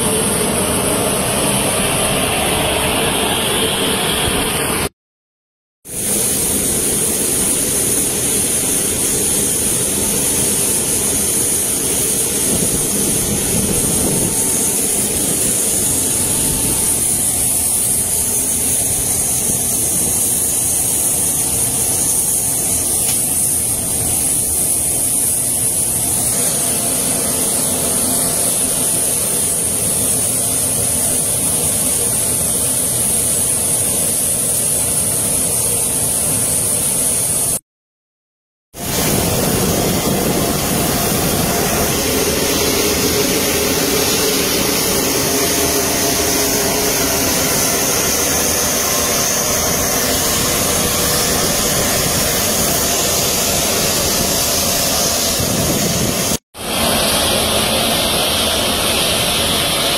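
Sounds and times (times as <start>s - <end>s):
jet turbine whine and hiss: 0.0s - 5.0s, 5.9s - 37.6s, 38.8s - 59.9s.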